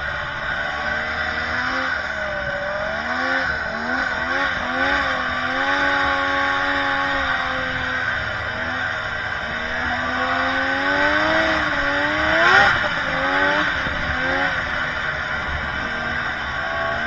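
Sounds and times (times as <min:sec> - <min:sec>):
rushing noise from track and snow: 0:00.0 - 0:17.0
snowmobile engine under throttle: 0:00.0 - 0:17.0.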